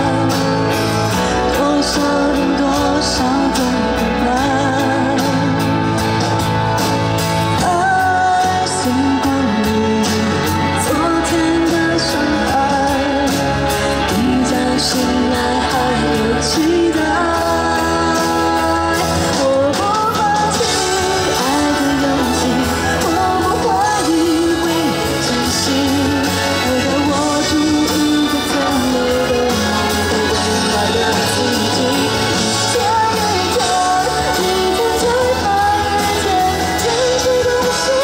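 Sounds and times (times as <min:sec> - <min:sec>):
drums and cymbals: 0:00.0 - 0:38.0
live pop rock band: 0:00.0 - 0:38.0
person singing: 0:00.0 - 0:38.0.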